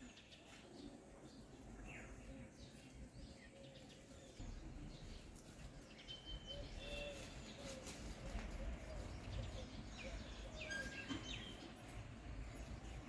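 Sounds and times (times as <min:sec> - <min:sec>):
faint bird chirps: 0:00.0 - 0:11.6.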